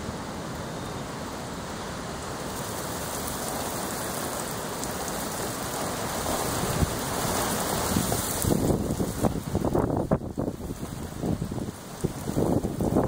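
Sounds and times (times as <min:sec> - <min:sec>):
rain on stone patio: 0:00.0 - 0:13.0.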